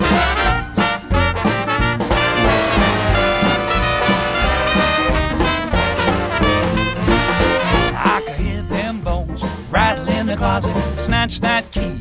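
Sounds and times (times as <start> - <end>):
swing music with brass horns: 0.0 - 12.0.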